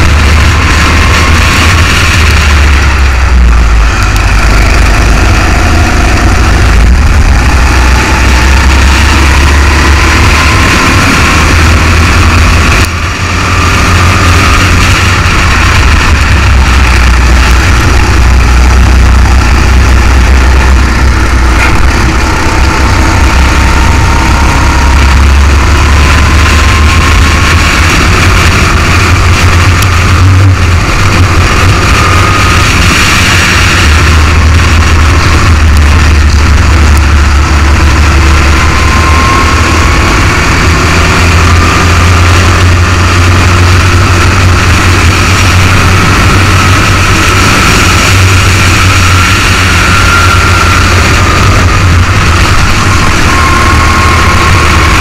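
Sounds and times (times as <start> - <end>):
kart engine whining: 0.0 - 55.0.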